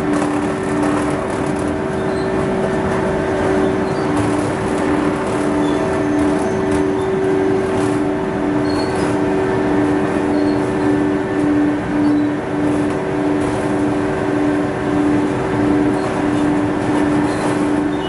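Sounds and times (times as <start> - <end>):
shredding machine droning: 0.0 - 18.0.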